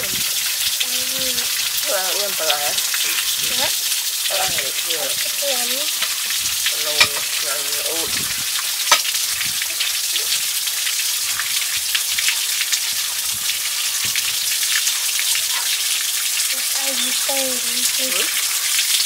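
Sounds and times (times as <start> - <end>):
fountain water splashing onto rocks: 0.0 - 19.0.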